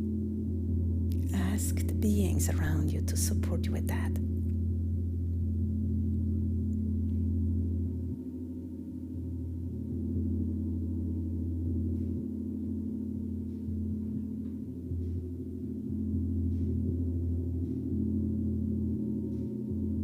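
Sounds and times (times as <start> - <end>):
gong deep sustained tones: 0.0 - 20.0.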